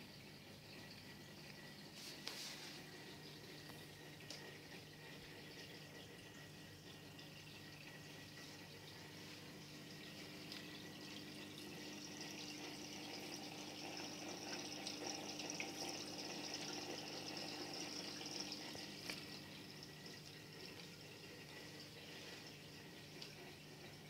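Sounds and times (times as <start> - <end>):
aquarium water trickling: 0.0 - 24.0
low steady hum: 0.0 - 24.0.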